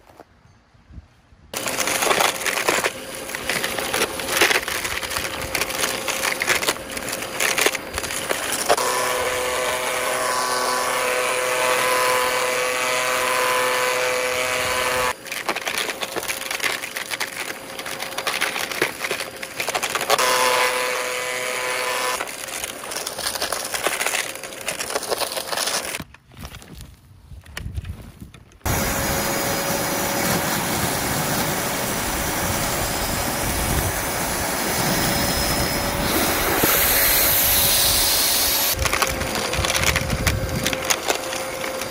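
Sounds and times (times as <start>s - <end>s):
vacuum cleaner motor whine: 1.6s - 15.2s, 17.5s - 26.0s, 28.7s - 41.9s
grit rattling through vacuum: 1.6s - 26.0s, 28.7s - 41.9s.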